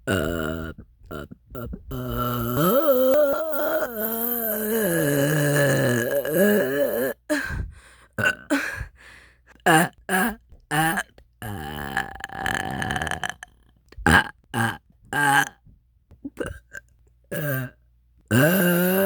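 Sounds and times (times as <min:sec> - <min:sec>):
person burping: 0:00.0 - 0:07.3, 0:08.2 - 0:08.9, 0:09.6 - 0:15.6, 0:16.3 - 0:19.0.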